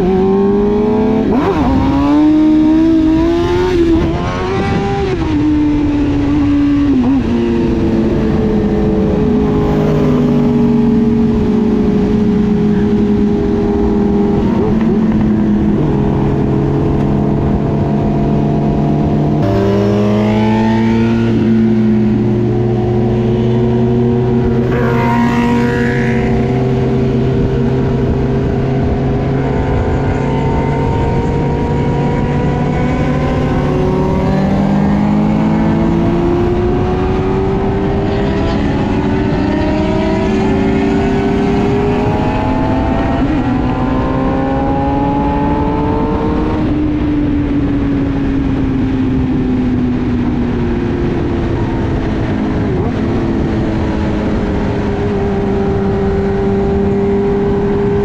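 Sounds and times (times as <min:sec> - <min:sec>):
car engine accelerating: 0:00.0 - 0:58.0
road and wind rumble: 0:00.0 - 0:58.0.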